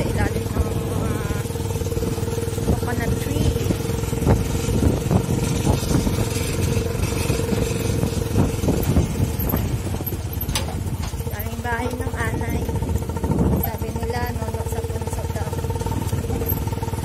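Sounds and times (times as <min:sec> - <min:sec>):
motorcycle engine running: 0:00.0 - 0:17.0
knocks and rattles: 0:02.0 - 0:17.0.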